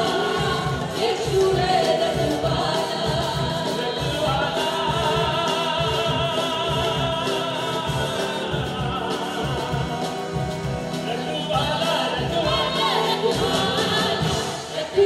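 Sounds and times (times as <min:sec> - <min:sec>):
group singing into microphones: 0:00.0 - 0:15.0.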